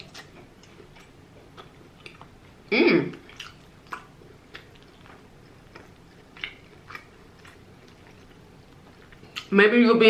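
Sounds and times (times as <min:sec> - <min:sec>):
quiet chewing: 0:00.0 - 0:09.5.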